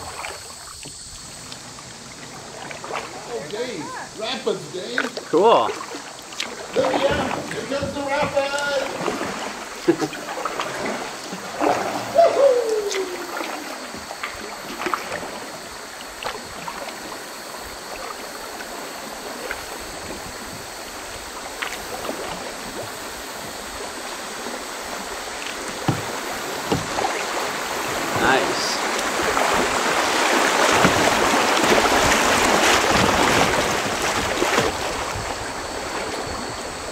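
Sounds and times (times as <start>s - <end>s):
paddle splashes and knocks: 0.0s - 36.9s
river water rushing: 0.0s - 36.9s.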